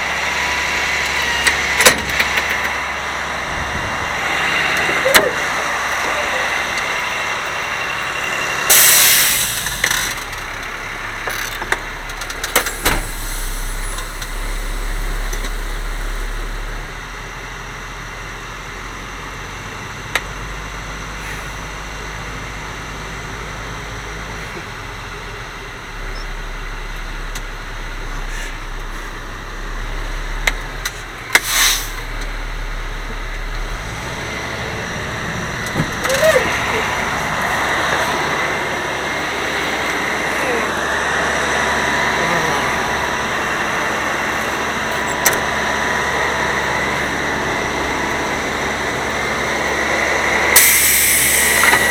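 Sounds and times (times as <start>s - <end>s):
garbage truck engine humming: 0.0s - 51.9s.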